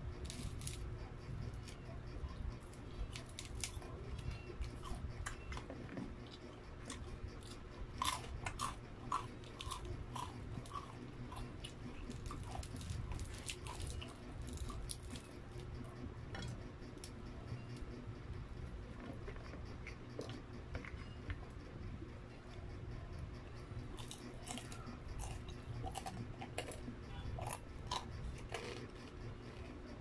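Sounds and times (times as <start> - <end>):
chewing crispy fried chicken: 0.0 - 30.0.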